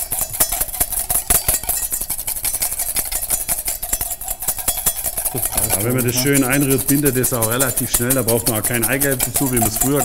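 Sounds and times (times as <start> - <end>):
whisk beating in metal bowl: 0.0 - 10.0.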